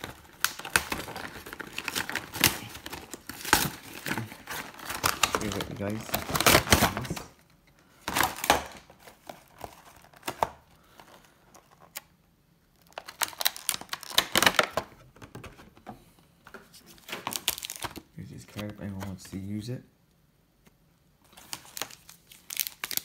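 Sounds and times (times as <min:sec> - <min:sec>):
plastic packaging crinkling: 0:00.0 - 0:15.0, 0:16.6 - 0:19.5, 0:21.3 - 0:23.0.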